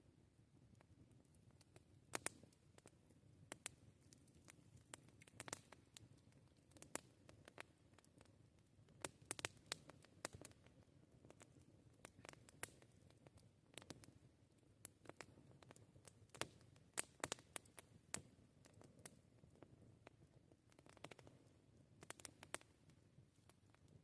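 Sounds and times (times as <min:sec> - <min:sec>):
campfire crackling: 0:00.6 - 0:24.0.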